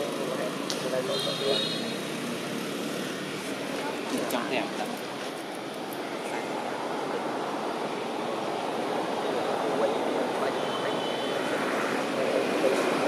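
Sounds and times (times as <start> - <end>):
rushing background noise: 0.0 - 13.0.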